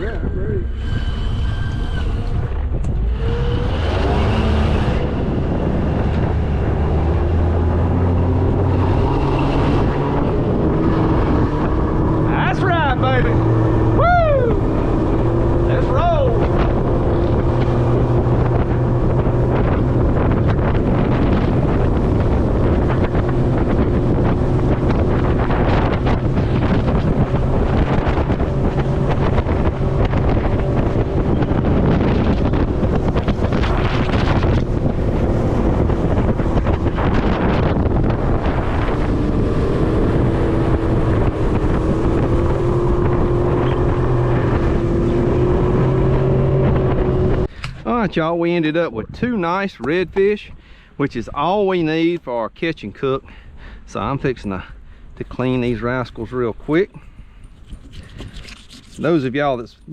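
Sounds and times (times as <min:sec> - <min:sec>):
motorboat engine running: 0:00.0 - 0:48.0
wind noise on microphone: 0:00.0 - 0:59.9.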